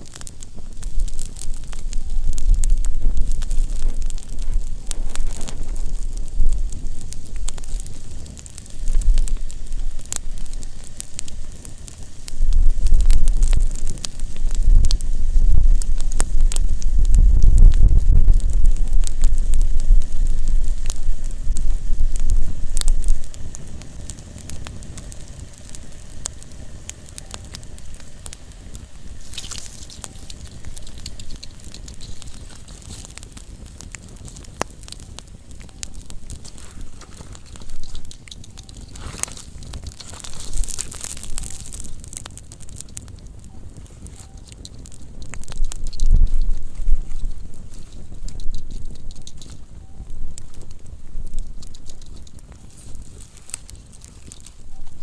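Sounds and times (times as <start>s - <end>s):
campfire crackling and popping: 0.0s - 55.0s
low rumble: 0.0s - 55.0s.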